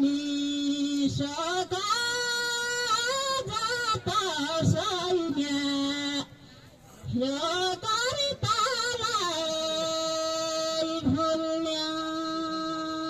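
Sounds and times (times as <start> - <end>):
person singing unaccompanied: 0.0 - 6.4, 7.0 - 13.0.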